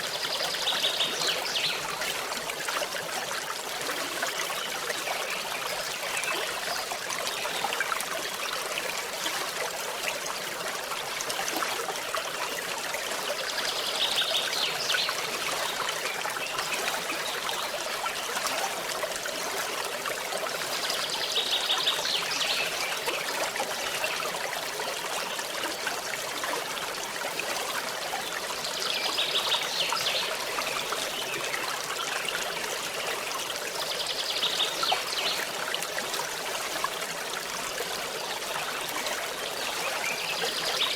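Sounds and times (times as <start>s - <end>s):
forest stream babbling: 0.0s - 40.9s.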